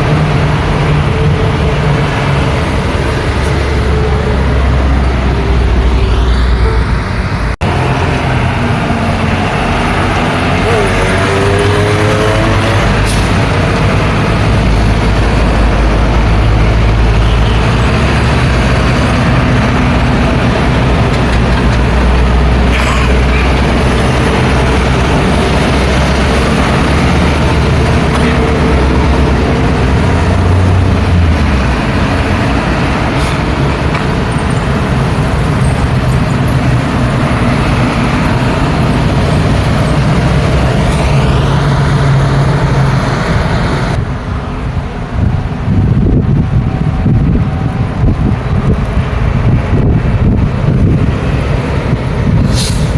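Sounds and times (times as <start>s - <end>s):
heavy vehicle engine hum: 0.0s - 52.9s
road traffic passing: 0.0s - 52.9s.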